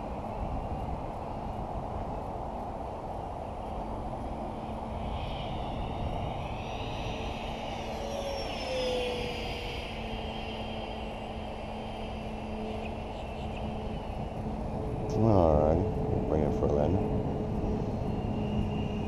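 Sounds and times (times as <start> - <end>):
model jet fan whining: 0.0 - 19.0
steady low rumble: 0.0 - 19.0.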